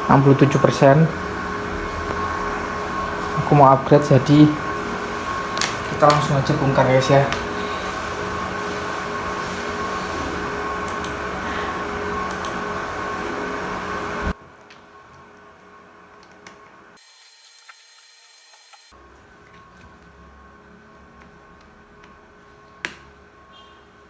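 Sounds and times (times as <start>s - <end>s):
mechanical hum with held tones: 0.0s - 24.0s.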